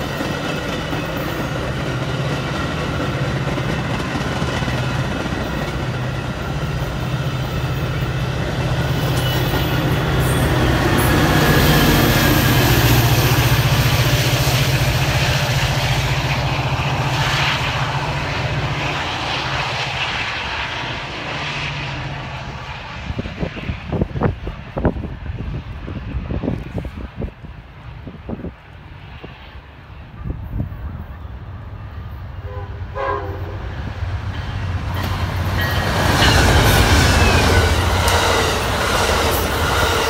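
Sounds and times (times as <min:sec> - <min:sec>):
diesel locomotive engine drone: 0:00.0 - 0:40.0
train rolling past: 0:00.0 - 0:40.0.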